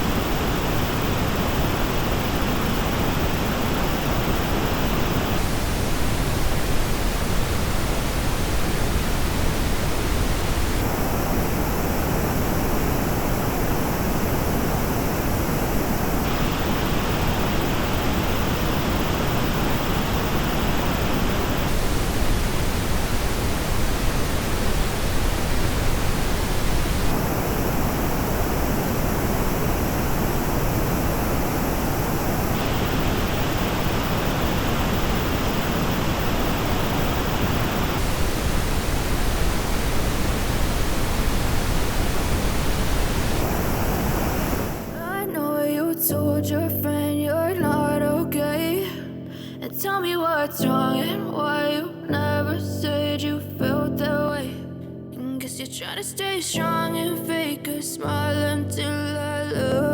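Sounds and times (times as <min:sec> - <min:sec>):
pink noise hiss: 0:00.0 - 0:54.6.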